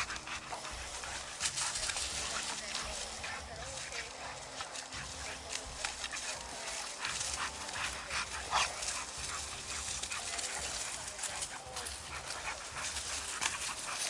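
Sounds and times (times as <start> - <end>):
dogs whimpering and yipping: 0.0 - 14.0
scuffling of paws: 0.0 - 14.0.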